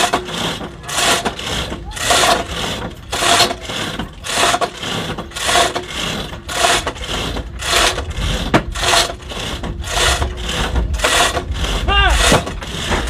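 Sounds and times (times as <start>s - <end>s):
chain pulley rattling and rasping: 0.0s - 13.0s.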